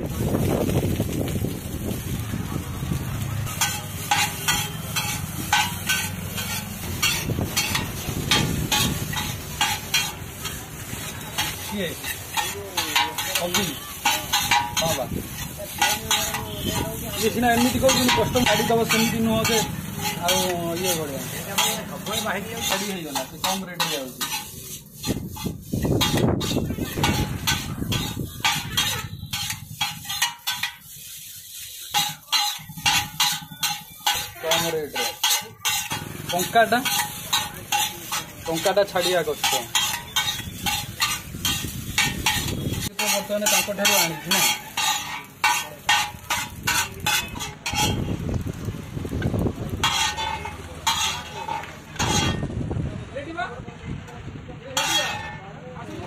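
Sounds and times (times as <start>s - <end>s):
frying sizzle: 0.0s - 53.5s, 54.7s - 56.0s
metal spatulas clacking on griddle: 3.5s - 48.6s, 49.2s - 52.4s, 54.8s - 55.4s.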